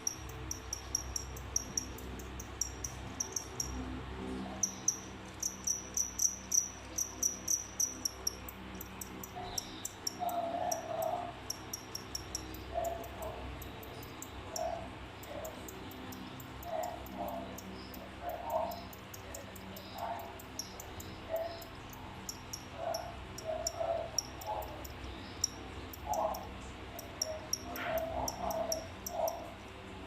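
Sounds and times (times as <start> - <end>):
cricket chirping: 0.0 - 29.5.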